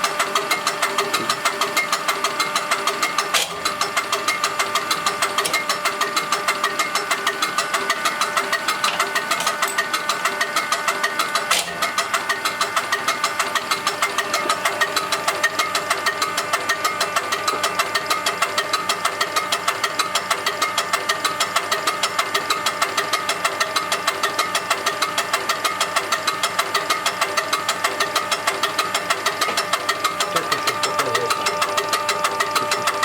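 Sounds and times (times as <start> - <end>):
fuel pump mechanical beat: 0.0 - 33.0.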